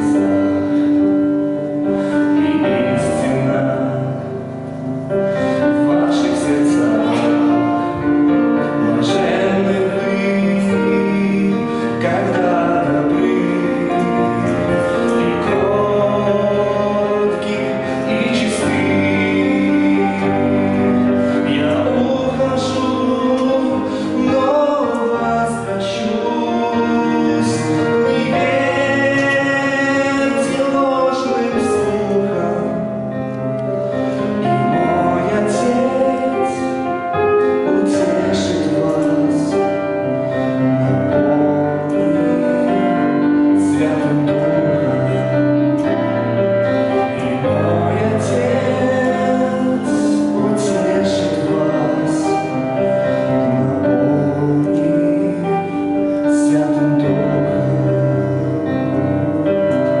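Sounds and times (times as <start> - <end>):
instrumental accompaniment: 0.0 - 60.0
man singing into a microphone: 0.0 - 60.0.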